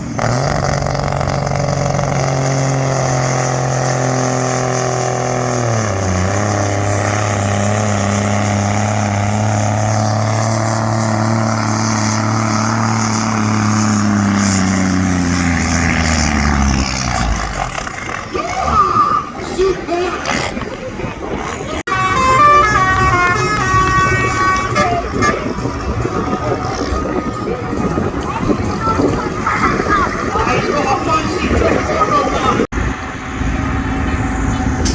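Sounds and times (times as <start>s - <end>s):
vehicle engine high drone: 0.0s - 19.6s, 21.4s - 34.9s.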